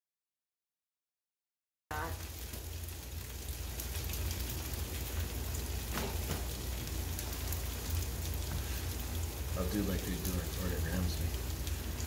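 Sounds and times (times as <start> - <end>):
food sizzling on griddle: 1.9 - 12.0
low steady hum: 1.9 - 12.0.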